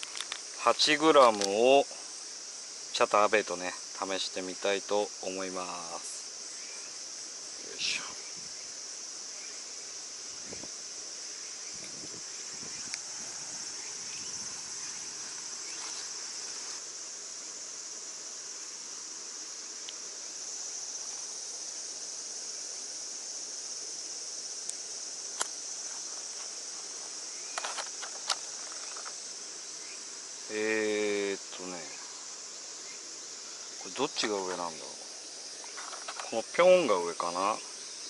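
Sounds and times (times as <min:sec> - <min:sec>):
insects chorus: 0:00.0 - 0:38.0.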